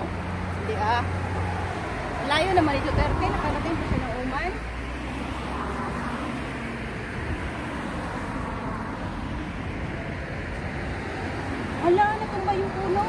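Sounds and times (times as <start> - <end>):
cars passing on road: 0.0 - 13.0
wind rumbling on microphone: 0.0 - 13.0.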